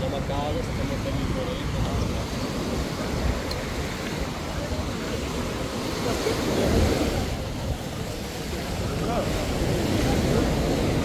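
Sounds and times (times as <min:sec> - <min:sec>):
surf washing onto beach: 0:00.0 - 0:11.0
wind buffeting microphone: 0:00.0 - 0:11.0.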